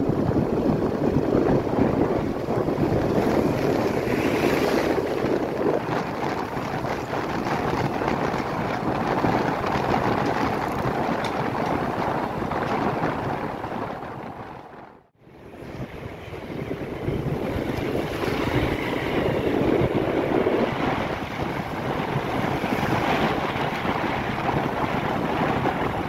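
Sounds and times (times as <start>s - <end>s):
low vehicle ride rumble: 0.0s - 26.0s
wind rushing over microphone: 0.0s - 26.0s.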